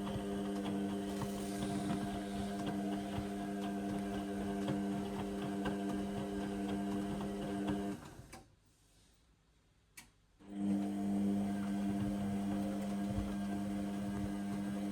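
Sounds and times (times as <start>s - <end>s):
washing machine drum humming: 0.0s - 8.0s, 10.6s - 14.9s.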